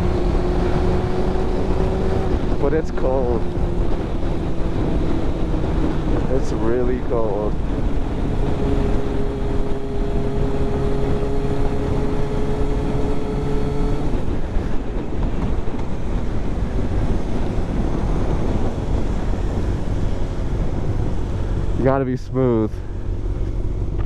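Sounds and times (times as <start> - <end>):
wind on microphone: 0.0 - 22.0
motorcycle engine running: 0.0 - 24.0.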